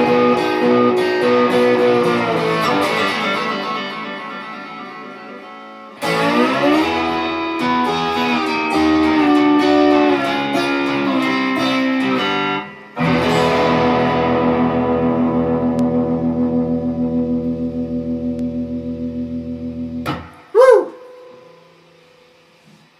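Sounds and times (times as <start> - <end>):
slide electric guitar: 0.0 - 21.8.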